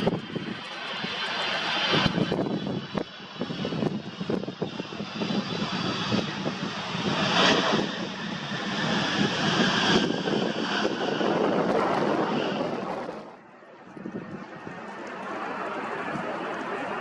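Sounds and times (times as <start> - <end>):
wind buffeting microphone: 0.0 - 1.2, 1.9 - 15.0
jet engines roaring: 0.0 - 17.0.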